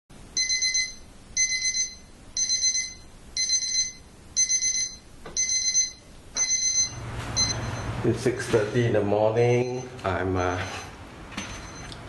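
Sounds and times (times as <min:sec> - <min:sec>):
alarm clock beeping: 0:00.4 - 0:09.0, 0:09.6 - 0:11.9.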